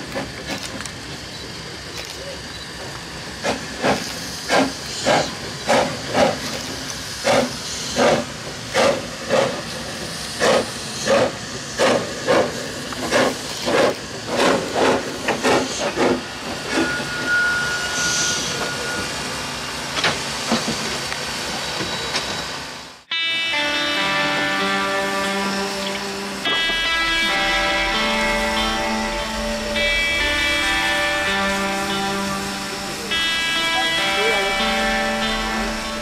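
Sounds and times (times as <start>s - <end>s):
steam locomotive exhaust chuffs: 0.0s - 22.3s, 23.3s - 36.0s
steam hissing: 0.0s - 22.8s, 23.8s - 36.0s.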